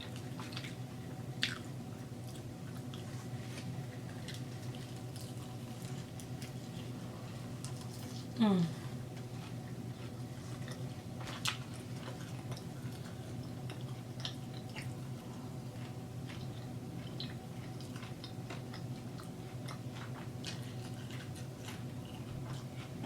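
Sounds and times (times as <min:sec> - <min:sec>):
crunchy chewing: 0:00.0 - 0:08.4, 0:09.2 - 0:23.0.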